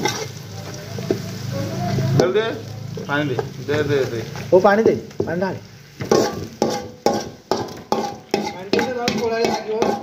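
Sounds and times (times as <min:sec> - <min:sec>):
ladle scraping and knocking wok: 0:00.0 - 0:01.3, 0:01.9 - 0:10.0
onions sizzling: 0:00.0 - 0:10.0.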